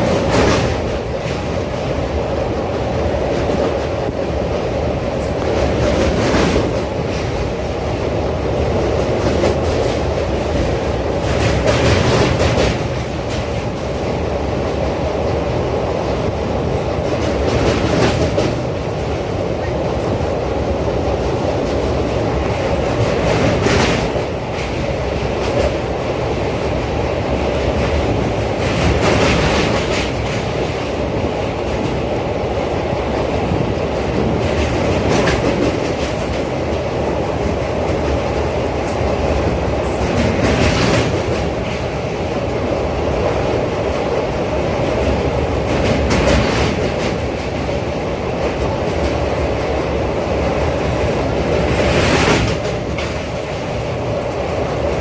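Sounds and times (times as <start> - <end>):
train rattle: 0.0 - 55.0
train wheels rumbling and clattering: 0.0 - 55.0.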